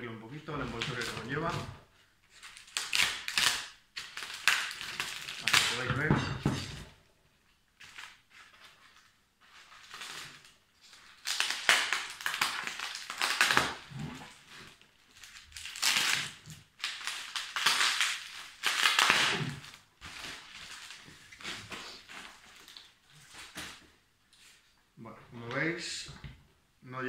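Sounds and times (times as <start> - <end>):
bubble wrap crinkling: 0.5 - 6.0, 7.4 - 24.7.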